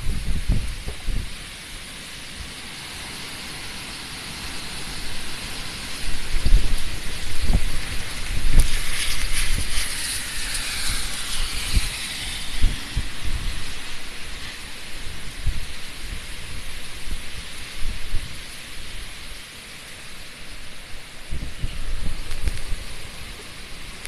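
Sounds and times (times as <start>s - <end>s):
gusting wind: 0.0s - 24.0s
heavy rain: 0.0s - 24.0s.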